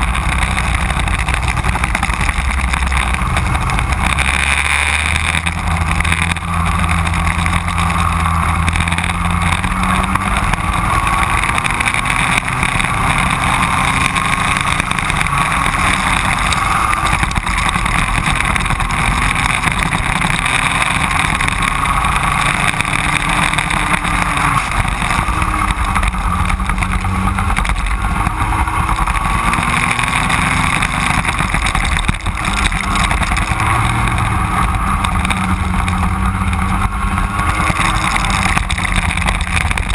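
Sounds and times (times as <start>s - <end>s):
racing go-kart engines: 0.0s - 39.9s.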